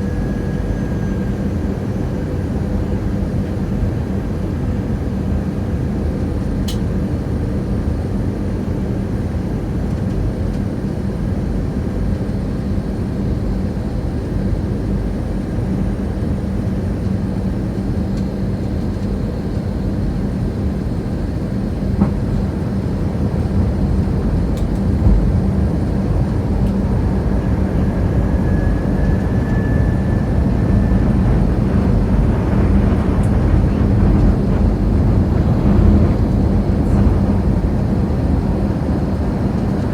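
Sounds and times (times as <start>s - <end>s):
aircraft cabin drone: 0.0s - 39.9s.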